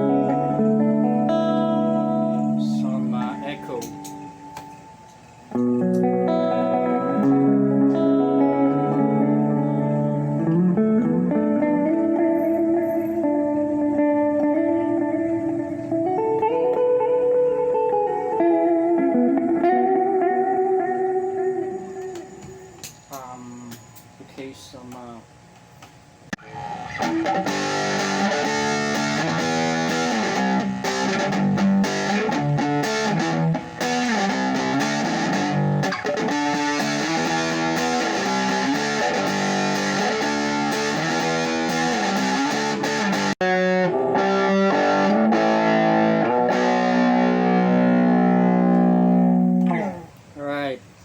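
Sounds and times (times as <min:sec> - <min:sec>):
distorted electric guitar: 0:00.0 - 0:23.9, 0:26.3 - 0:50.4.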